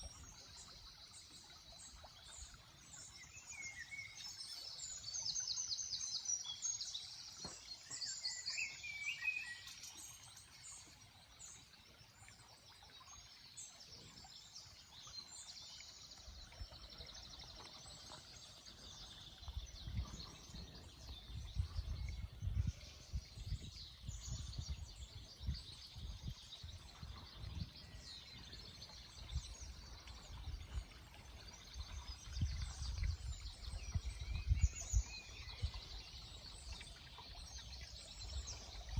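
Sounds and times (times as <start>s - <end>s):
wild birds singing: 0.0s - 38.9s.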